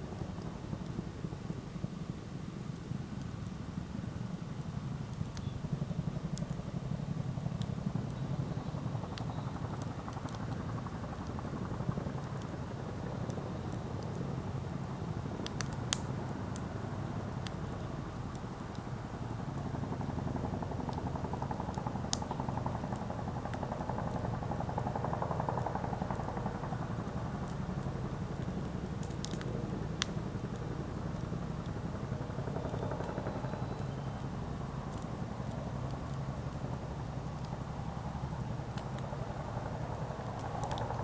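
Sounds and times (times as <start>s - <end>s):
burning wood popping and crackling: 0.1s - 41.0s.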